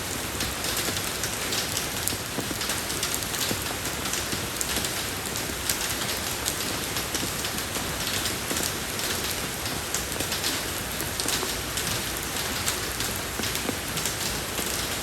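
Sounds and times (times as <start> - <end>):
rain on a road: 0.0 - 15.0.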